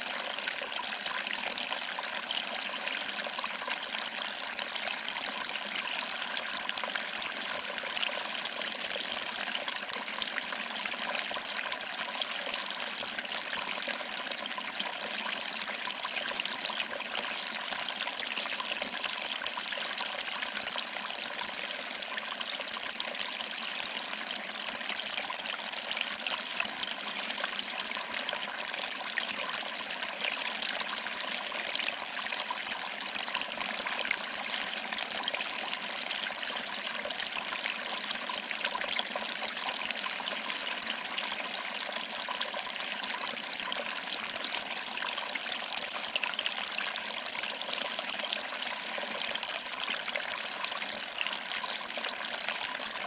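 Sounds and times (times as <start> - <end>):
small waterfall splashing over rocks: 0.0 - 53.0.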